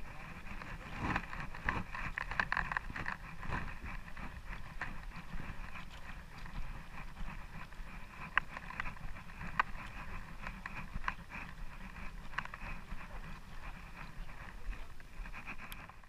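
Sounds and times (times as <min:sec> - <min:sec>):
boat engine rumble: 0:00.0 - 0:16.0
water noise: 0:00.0 - 0:16.0.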